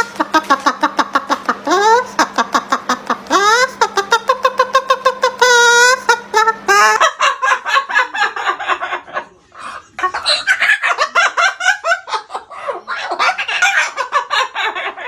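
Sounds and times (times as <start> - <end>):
cockatoo clucking calls: 0.0 - 8.9, 9.6 - 15.0.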